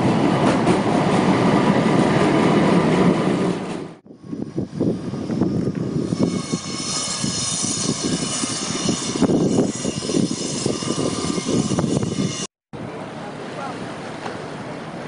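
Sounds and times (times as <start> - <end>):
wind buffeting microphone: 0.0 - 12.5.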